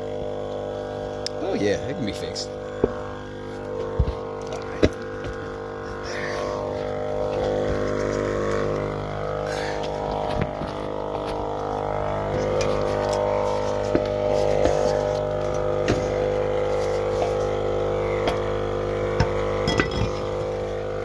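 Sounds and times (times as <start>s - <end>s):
mechanical drone: 0.0s - 21.0s.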